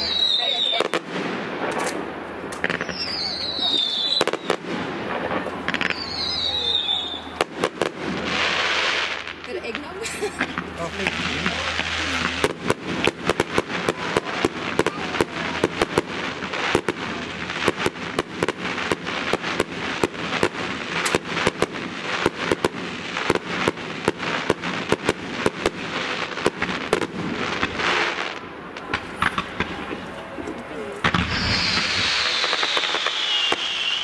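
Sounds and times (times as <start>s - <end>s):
fireworks bangs and cracks: 0.0s - 34.0s
fireworks hissing crackle: 0.0s - 34.0s.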